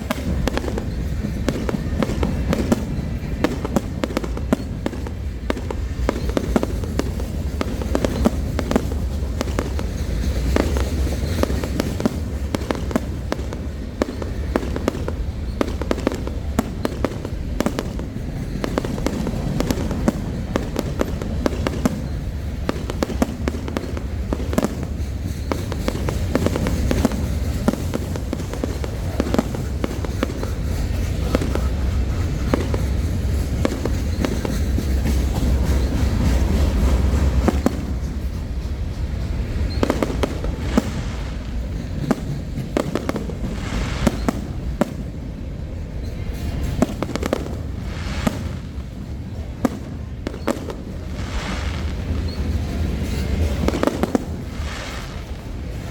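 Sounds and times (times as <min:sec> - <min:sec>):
fireworks bangs and crackles: 0:00.0 - 0:55.9
steady low rumble: 0:00.0 - 0:55.9.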